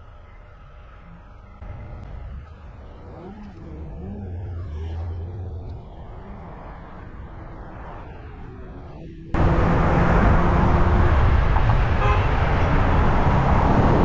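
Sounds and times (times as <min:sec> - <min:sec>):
loud steady rushing noise: 0:00.0 - 0:14.0
low road rumble: 0:00.0 - 0:14.0.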